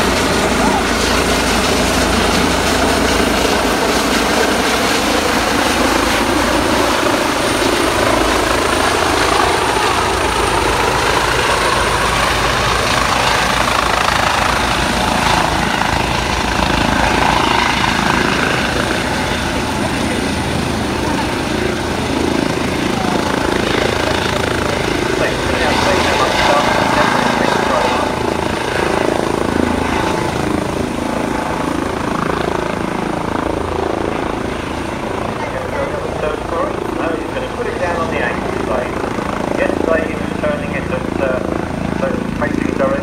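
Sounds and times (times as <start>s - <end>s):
helicopter rotor and turbine engine: 0.0s - 43.0s.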